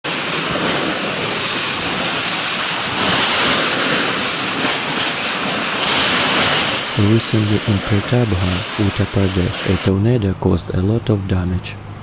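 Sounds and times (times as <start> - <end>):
strong wind on microphone: 0.0 - 10.4.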